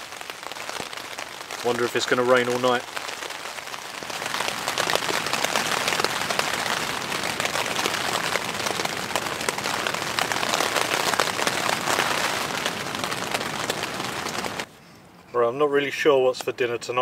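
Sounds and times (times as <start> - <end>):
rain pattering on tent fabric: 0.0 - 14.7.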